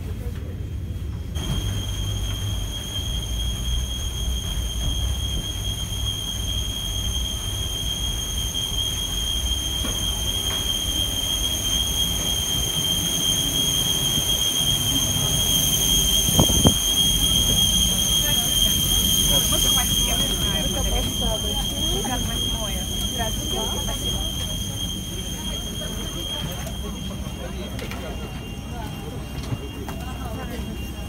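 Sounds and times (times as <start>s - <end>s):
jet turbine whine: 1.4s - 31.0s.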